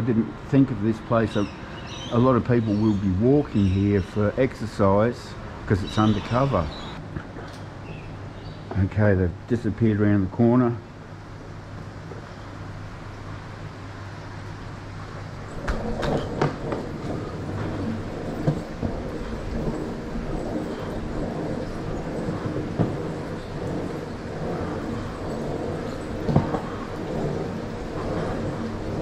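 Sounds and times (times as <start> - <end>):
skateboard wheels rolling on concrete: 0.0 - 29.0.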